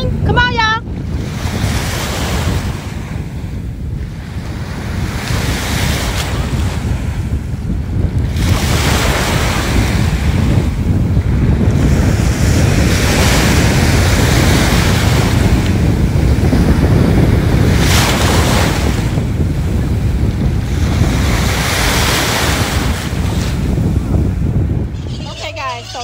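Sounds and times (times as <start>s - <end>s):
sea surf washing onto beach: 0.0s - 26.0s
wind buffeting microphone: 0.0s - 26.0s.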